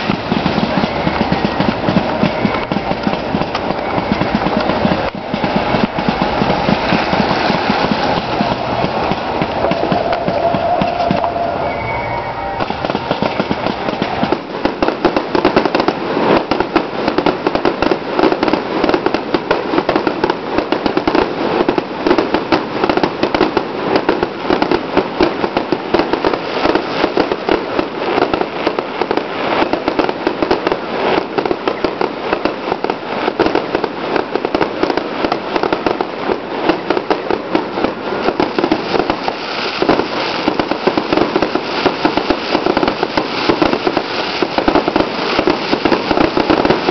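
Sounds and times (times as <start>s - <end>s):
fireworks crackling: 0.0s - 46.9s
loud firework reports: 0.0s - 46.9s.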